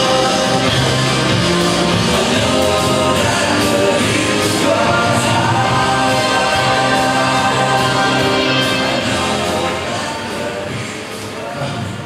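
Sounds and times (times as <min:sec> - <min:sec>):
band playing: 0:00.0 - 0:11.3.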